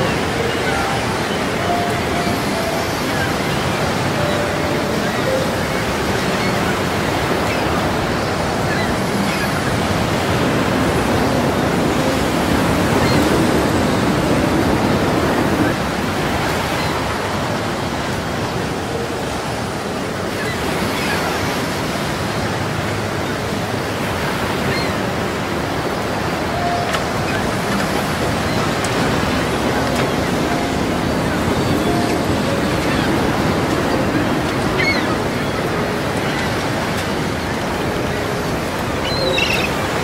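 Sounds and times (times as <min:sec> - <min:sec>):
choppy sea water: 0:00.0 - 0:40.0
wind: 0:00.0 - 0:40.0.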